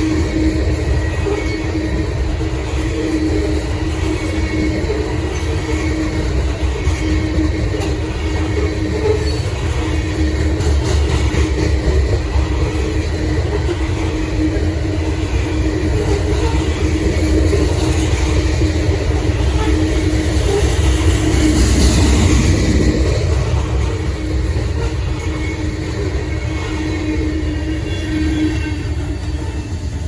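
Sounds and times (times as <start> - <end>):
freight train wheels rumbling on rail: 0.0 - 30.0.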